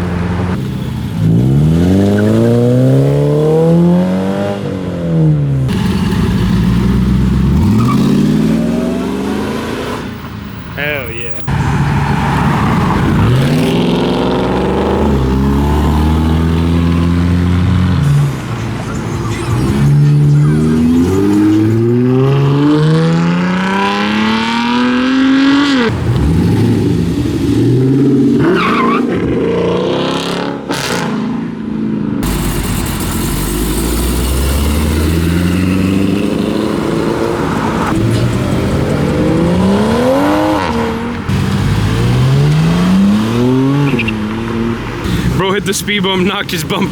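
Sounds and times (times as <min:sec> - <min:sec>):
car engines revving and accelerating: 0:00.0 - 0:46.9.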